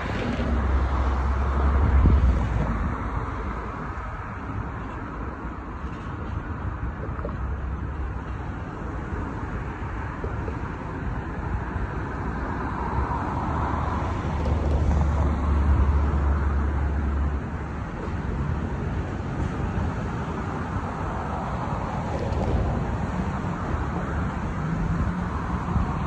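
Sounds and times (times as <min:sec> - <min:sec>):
expressway traffic noise: 0:00.0 - 0:26.0.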